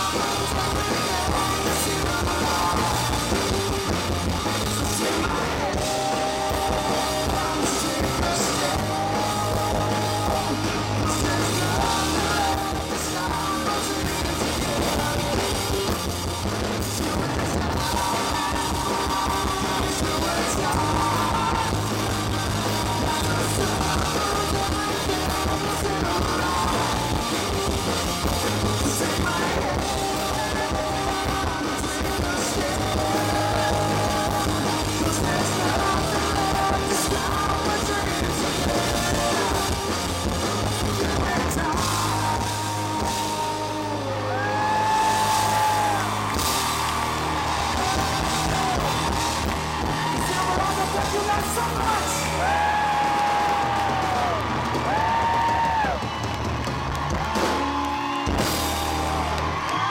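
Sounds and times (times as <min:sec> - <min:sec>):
man singing: 0:00.0 - 0:46.2, 0:49.9 - 0:55.0
drum kit: 0:00.0 - 0:59.9
electric guitars: 0:00.0 - 0:59.9.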